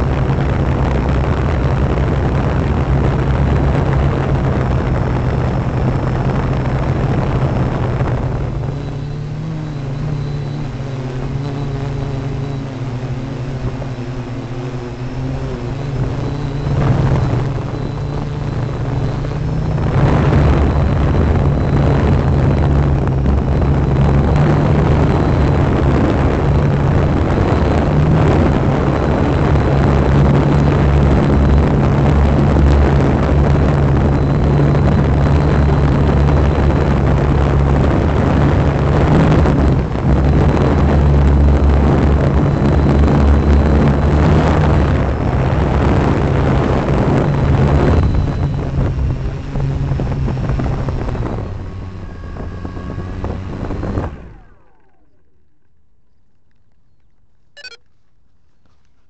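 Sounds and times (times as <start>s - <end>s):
drone propellers buzzing: 0.0s - 55.4s.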